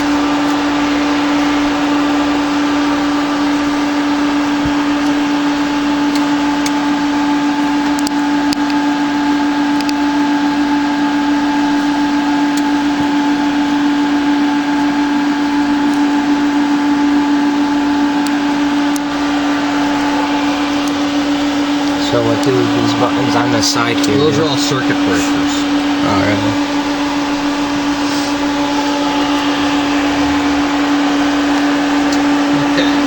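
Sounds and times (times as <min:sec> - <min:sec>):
faint fan whine: 0:00.0 - 0:33.0
steady electrical hum: 0:00.0 - 0:33.0.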